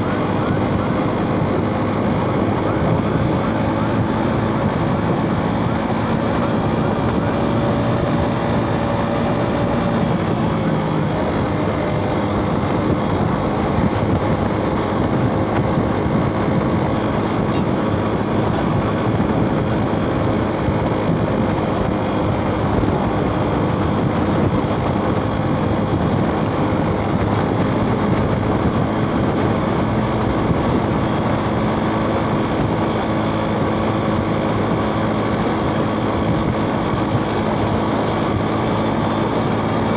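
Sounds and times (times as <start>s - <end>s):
motorbike engine running: 0.0s - 39.9s
road and passing traffic noise: 0.0s - 39.9s.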